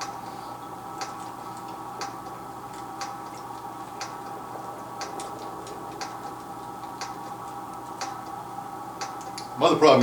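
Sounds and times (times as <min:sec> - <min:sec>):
clock ticking: 0:00.0 - 0:00.2, 0:01.0 - 0:08.4, 0:09.0 - 0:09.4
steady hum: 0:00.0 - 0:10.0.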